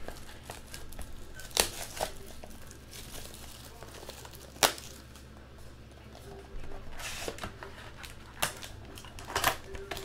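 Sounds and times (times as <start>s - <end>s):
cellophane crinkling and tearing: 0.0s - 5.4s, 6.9s - 10.0s.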